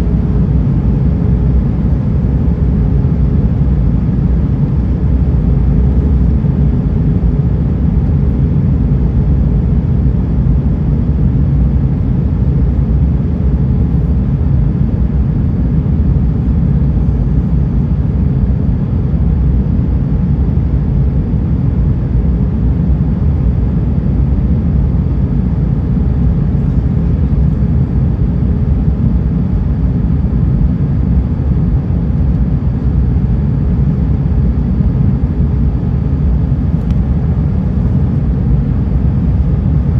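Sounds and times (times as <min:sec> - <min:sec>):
aircraft engines rumbling: 0:00.0 - 0:39.9
faint steady hum: 0:00.0 - 0:39.9.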